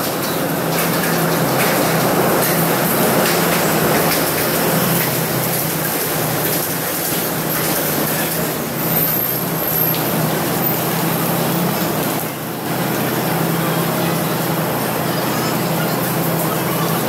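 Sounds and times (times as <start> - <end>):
crowded platform noise: 0.0 - 17.0
train carriages rolling: 0.0 - 17.0.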